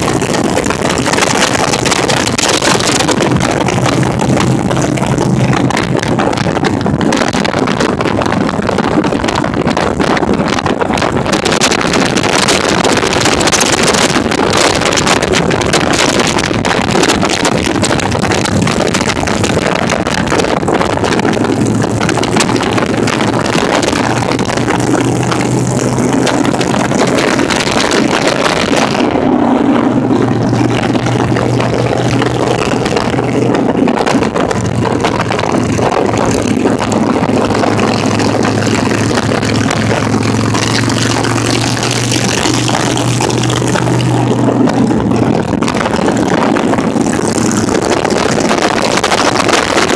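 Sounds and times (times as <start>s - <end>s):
motorcycle engine running: 0.0s - 49.9s
wind on microphone: 0.0s - 49.9s.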